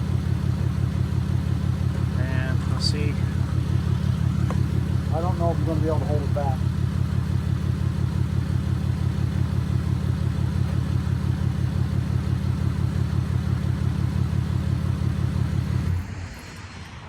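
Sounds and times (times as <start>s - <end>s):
vehicle engine idling: 0.0s - 16.6s.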